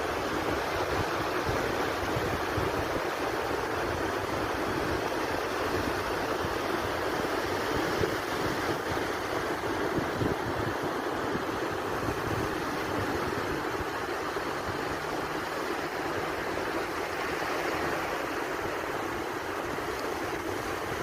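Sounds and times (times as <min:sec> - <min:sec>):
sea surf washing: 0:00.0 - 0:21.0.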